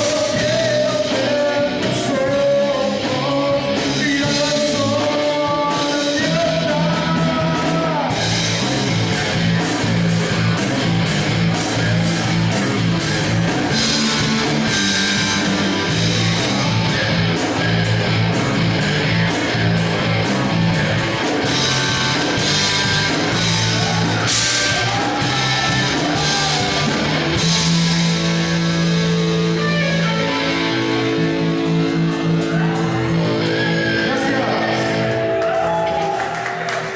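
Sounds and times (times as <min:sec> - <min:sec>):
rock band music with singing: 0:00.0 - 0:36.9.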